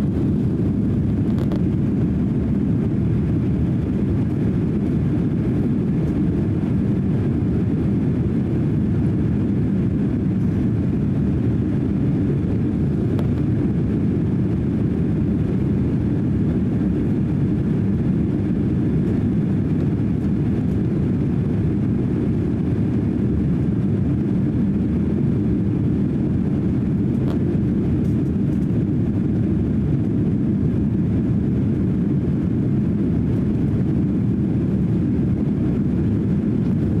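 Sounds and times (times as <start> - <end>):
jet engine roar in cabin: 0.0 - 37.0.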